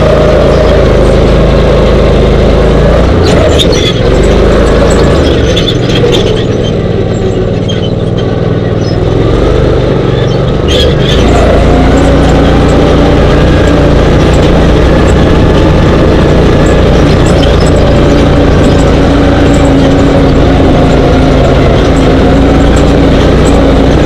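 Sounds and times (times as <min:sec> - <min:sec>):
dune buggy engine running: 0:00.0 - 0:24.0
rumble of riding over sand: 0:00.0 - 0:24.0.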